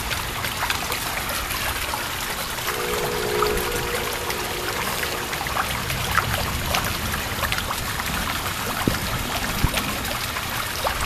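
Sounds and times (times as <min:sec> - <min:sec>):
rain pouring: 0:00.0 - 0:11.0.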